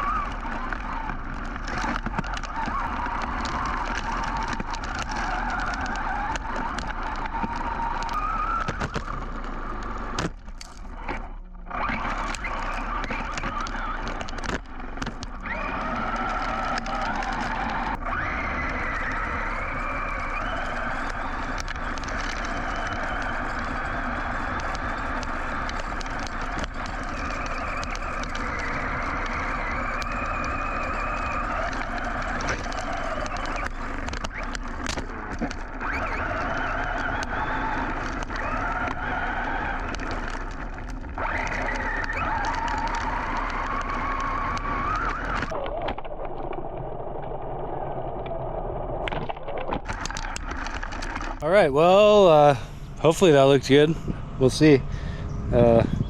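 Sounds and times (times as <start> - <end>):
electric motor whining: 0.0 - 56.0.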